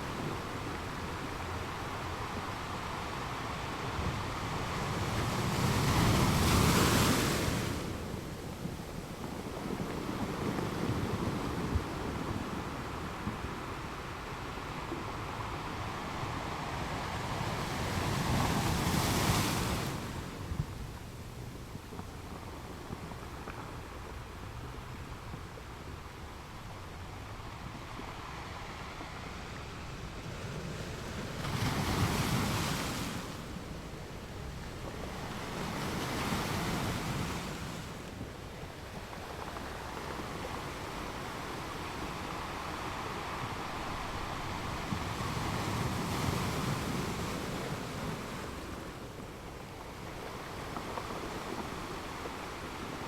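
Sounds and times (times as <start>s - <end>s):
ocean waves breaking on a beach: 0.0s - 53.0s.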